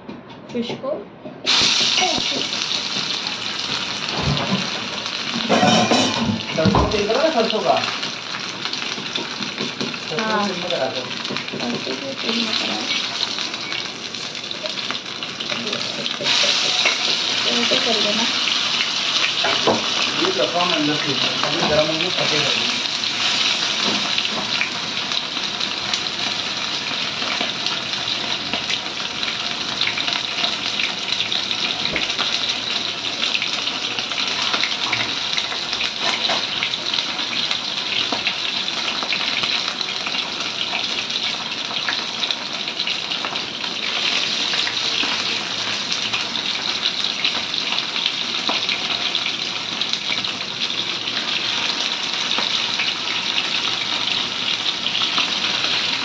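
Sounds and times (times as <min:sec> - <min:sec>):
fish sizzling in oil: 0:01.5 - 0:56.0.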